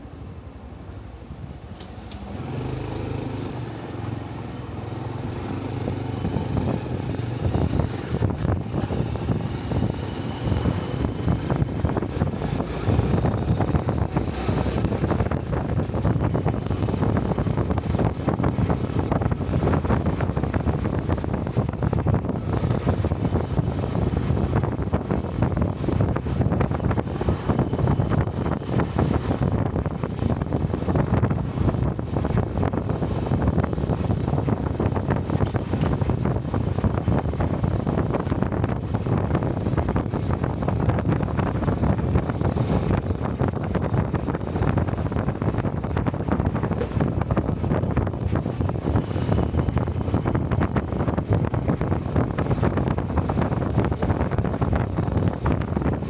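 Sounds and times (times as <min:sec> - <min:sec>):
road noise: 0:00.0 - 0:56.0
wind rushing over microphone: 0:00.0 - 0:56.0
motorcycle engine: 0:01.6 - 0:56.0.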